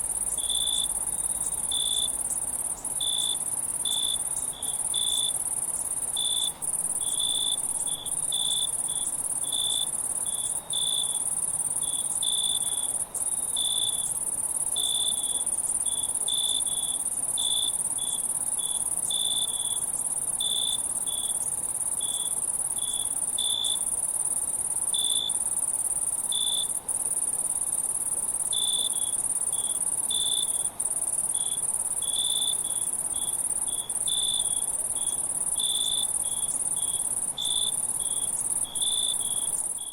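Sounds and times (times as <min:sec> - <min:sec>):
cricket chirping: 0:00.0 - 0:39.9
high-pitched insect trill: 0:00.0 - 0:39.9.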